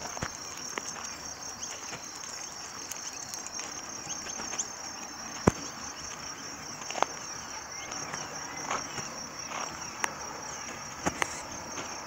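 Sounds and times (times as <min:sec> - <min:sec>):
birds chirping: 0:00.0 - 0:12.0
high insect trill: 0:00.0 - 0:12.0.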